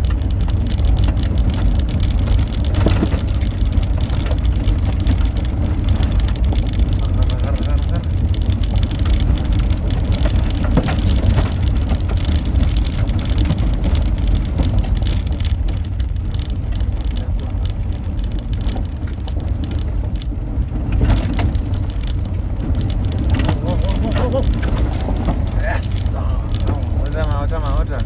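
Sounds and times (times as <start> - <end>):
car engine and tyres rumbling: 0.0 - 28.0
gravel ticking on car body: 0.0 - 28.0.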